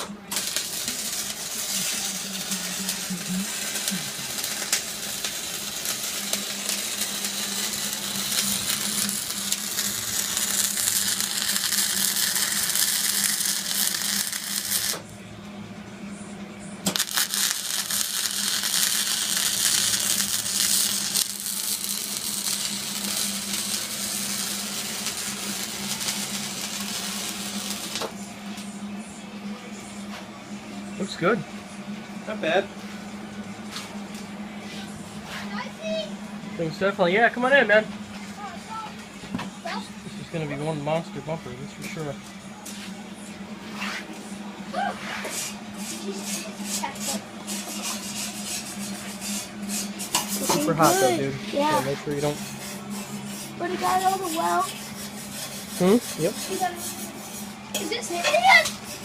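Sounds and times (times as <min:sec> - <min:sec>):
arc welding crackling sizzle: 0:00.0 - 0:15.1, 0:16.8 - 0:28.7, 0:35.5 - 0:59.0.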